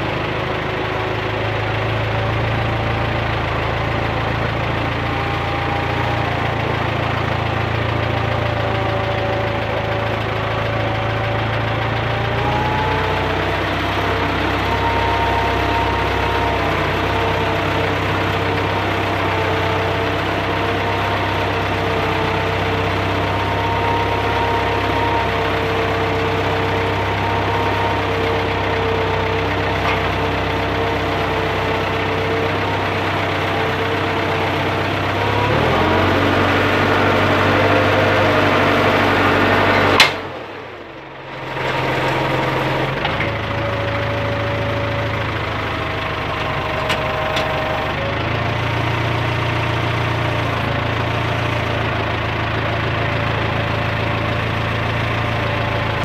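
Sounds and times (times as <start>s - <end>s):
tractor engine drone: 0.0s - 56.0s.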